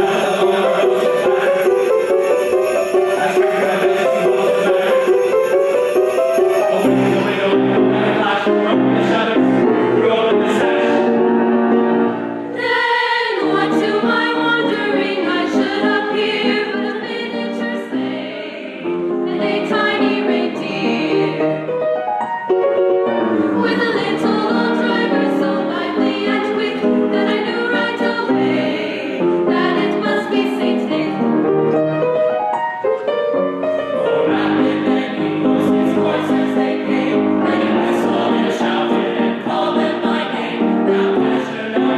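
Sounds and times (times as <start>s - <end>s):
choir singing a carol: 0.0s - 21.9s, 23.0s - 32.0s, 33.0s - 41.9s
instrumental accompaniment: 0.0s - 41.9s.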